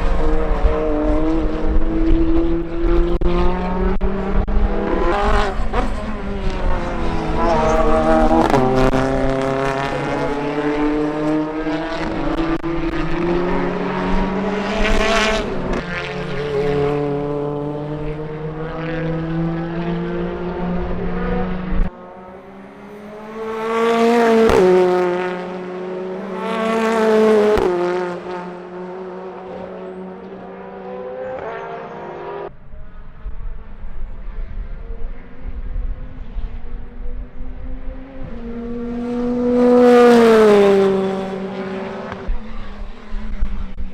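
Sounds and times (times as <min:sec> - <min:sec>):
race car engine accelerating: 0:00.0 - 0:43.9.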